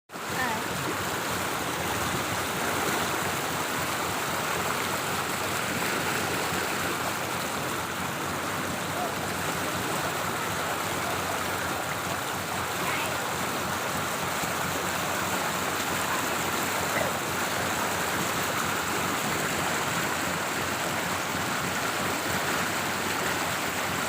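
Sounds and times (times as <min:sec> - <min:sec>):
floodwater rushing: 0:00.1 - 0:24.0.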